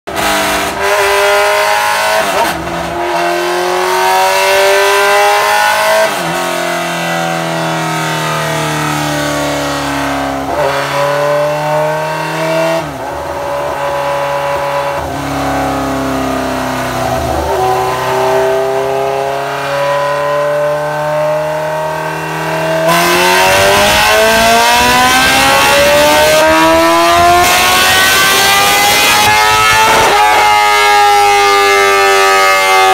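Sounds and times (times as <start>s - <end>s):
motorcycle engine under load: 0.1s - 32.9s.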